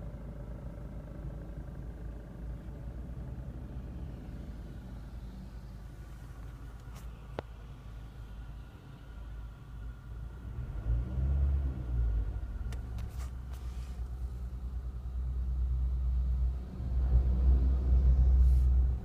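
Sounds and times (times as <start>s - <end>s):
car engine rumble inside cabin: 0.0s - 19.0s.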